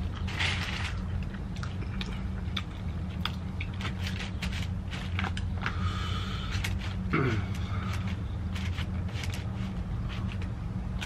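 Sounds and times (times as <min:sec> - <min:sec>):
person chewing crunchy food: 0:00.0 - 0:11.0
steady low hum: 0:00.0 - 0:11.0.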